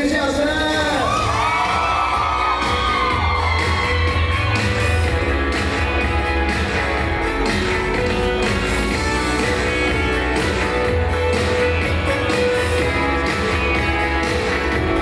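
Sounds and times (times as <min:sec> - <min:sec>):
instrumental pop music: 0:00.0 - 0:15.0.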